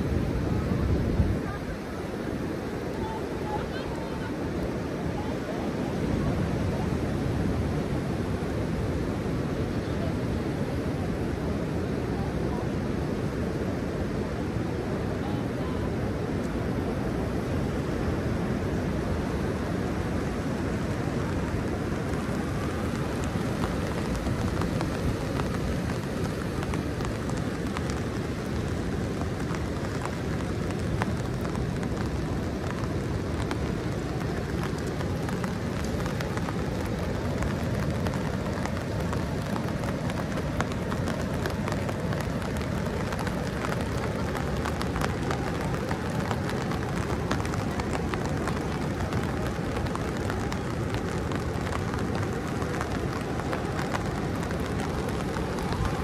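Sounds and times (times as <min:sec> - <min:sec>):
low steady rush: 0:00.0 - 0:56.0
rain hitting an umbrella: 0:00.0 - 0:56.0.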